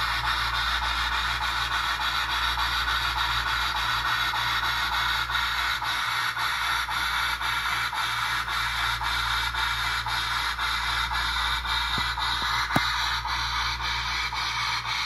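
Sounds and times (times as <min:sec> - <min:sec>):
steam hiss from small speaker: 0:00.0 - 0:15.0.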